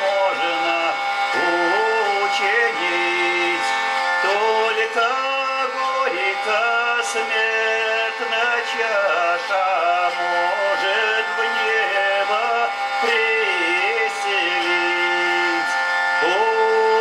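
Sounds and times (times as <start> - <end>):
hurdy-gurdy drone and melody: 0.0 - 17.0
man singing: 0.0 - 17.0.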